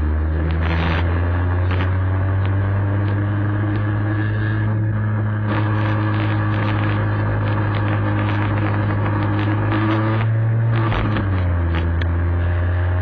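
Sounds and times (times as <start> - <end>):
wind noise: 0.0 - 12.1
road noise: 0.0 - 13.0
scooter engine running: 0.0 - 13.0.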